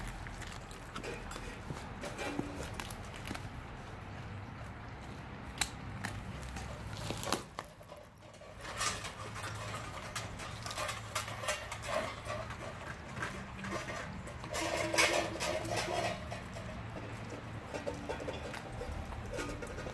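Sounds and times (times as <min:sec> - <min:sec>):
dogs crunching bones: 0:00.0 - 0:19.9.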